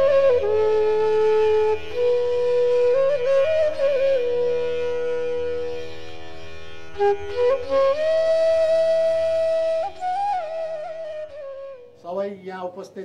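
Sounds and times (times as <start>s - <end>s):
flute melody: 0.0s - 6.2s, 6.9s - 12.0s.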